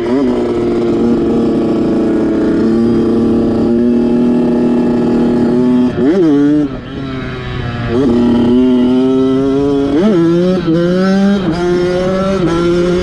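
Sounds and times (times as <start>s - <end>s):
dirt bike engine revving high: 0.0s - 13.0s.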